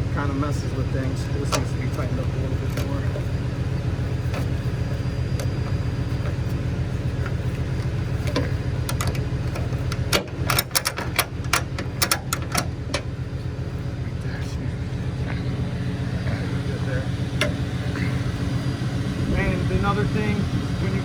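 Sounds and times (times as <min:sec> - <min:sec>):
tow truck engine idling: 0:00.0 - 0:21.0.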